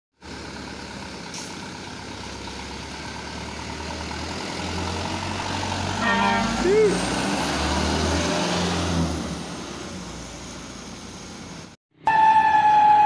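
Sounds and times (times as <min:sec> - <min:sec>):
truck engine rumble: 0:00.2 - 0:11.8.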